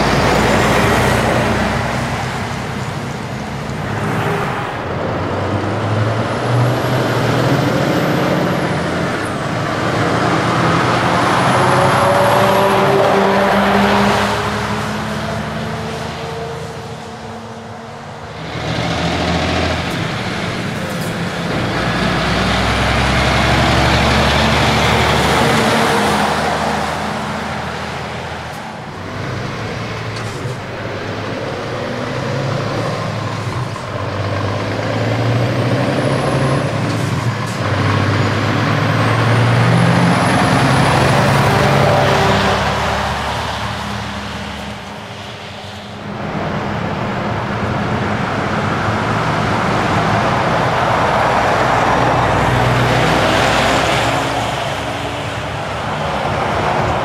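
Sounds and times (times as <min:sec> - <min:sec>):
heavy trucks passing: 0:00.0 - 0:57.0.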